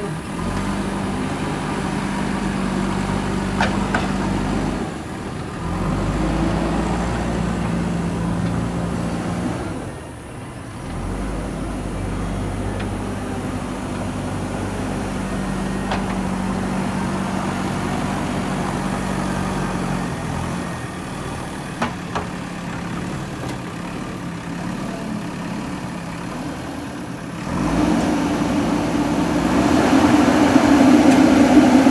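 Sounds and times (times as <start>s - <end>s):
diesel engine running and revving: 0.0s - 31.9s.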